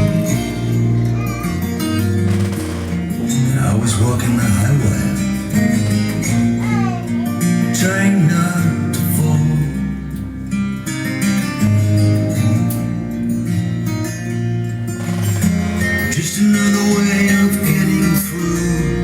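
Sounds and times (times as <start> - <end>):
song with guitar and singing: 0.0 - 11.1, 14.7 - 19.0.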